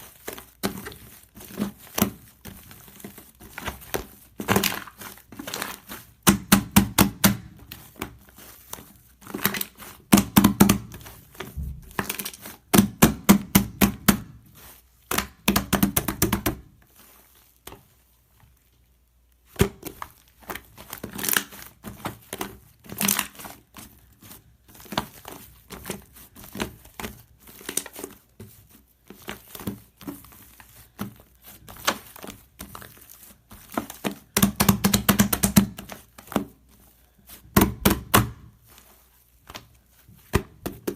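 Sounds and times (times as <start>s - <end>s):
crinkling and rustling handling noise: 0.0s - 40.9s.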